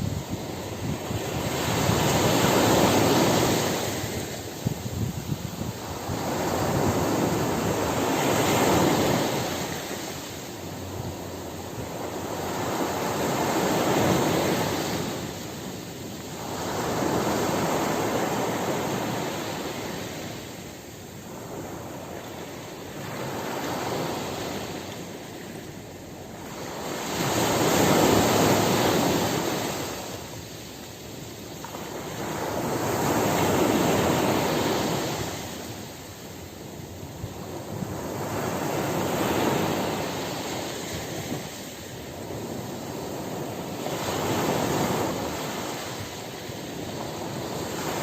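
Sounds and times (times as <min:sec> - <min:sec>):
sea waves breaking: 0:00.0 - 0:48.0.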